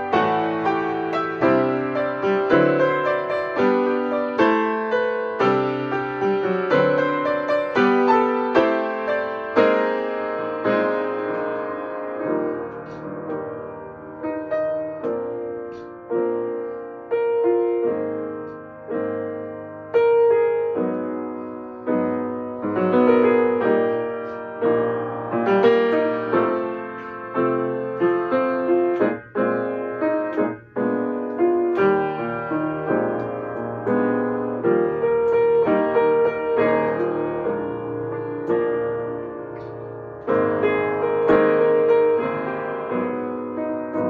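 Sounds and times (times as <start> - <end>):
upright piano chords: 0.0 - 44.0.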